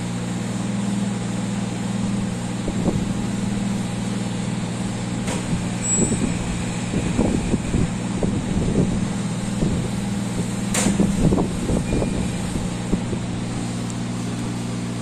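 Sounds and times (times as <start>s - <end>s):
pottery wheel motor humming: 0.0s - 15.0s.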